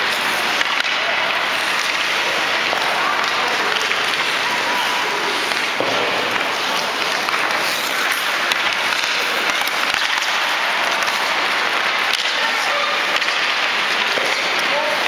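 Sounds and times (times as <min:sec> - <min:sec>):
faint hockey stick clacks: 0:00.0 - 0:15.0
ice skates scraping: 0:00.0 - 0:15.0.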